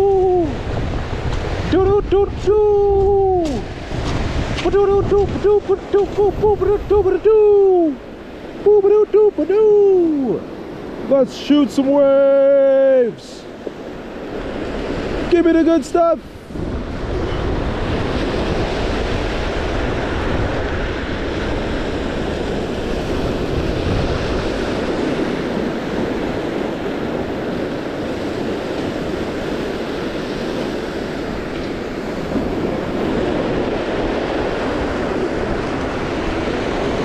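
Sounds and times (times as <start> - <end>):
wind buffeting microphone: 0.0 - 12.2, 13.5 - 37.0
waves washing over pebbles: 0.0 - 37.0.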